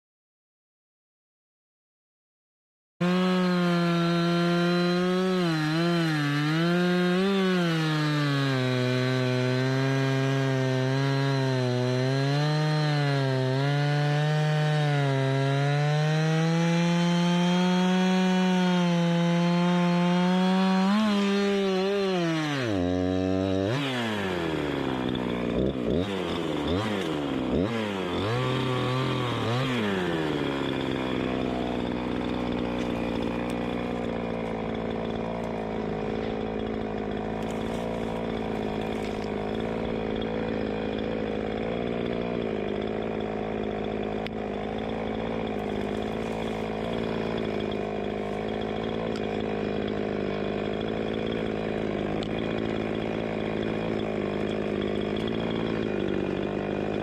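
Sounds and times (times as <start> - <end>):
chainsaw cutting wood: 3.0 - 57.0.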